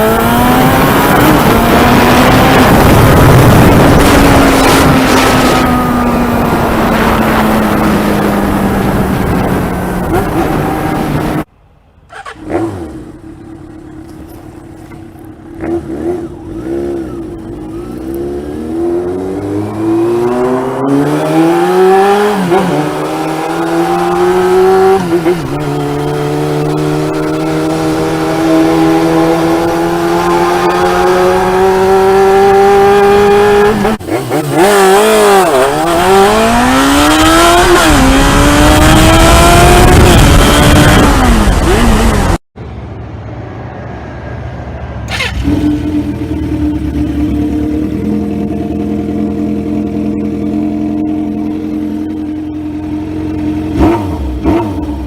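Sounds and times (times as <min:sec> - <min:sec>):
motorcycle engine idling and accelerating: 0:00.0 - 0:55.0.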